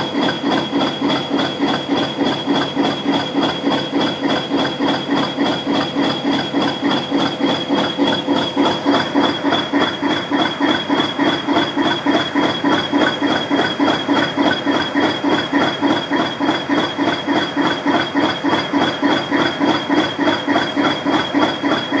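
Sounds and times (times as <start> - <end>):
locomotive diesel engine running: 0.0 - 22.0.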